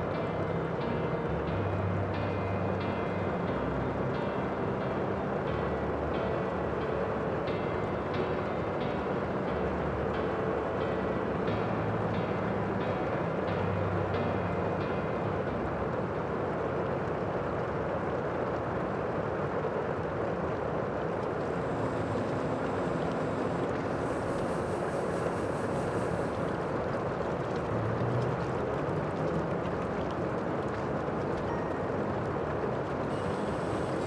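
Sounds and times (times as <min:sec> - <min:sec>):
faint low hums: 0:00.0 - 0:34.0
rushing outdoor ambience: 0:00.0 - 0:34.0.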